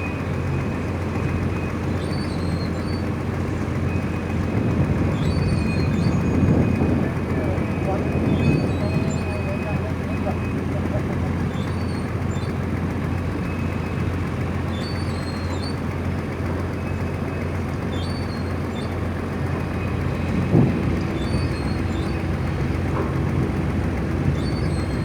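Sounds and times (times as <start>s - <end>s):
diesel engines droning: 0.0s - 25.0s.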